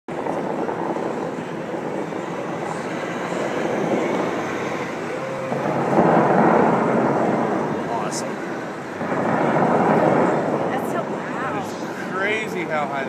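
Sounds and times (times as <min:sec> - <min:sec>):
fountain water jets rushing: 0:00.1 - 0:13.0.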